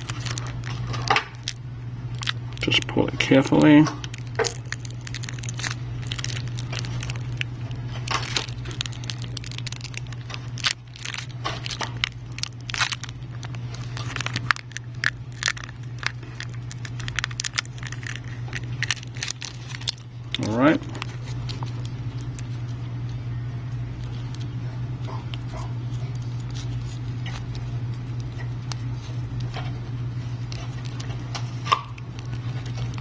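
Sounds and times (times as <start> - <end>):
plastic film peeling and crinkling: 0.0 - 22.8, 26.1 - 33.0
steady low hum: 0.0 - 33.0.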